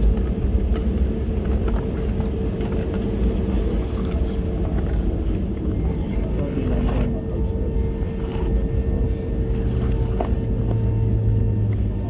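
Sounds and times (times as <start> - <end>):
constant cabin hum: 0.0 - 12.0
deeper hum: 0.0 - 12.0
jet engines idling low rumble: 0.0 - 12.0.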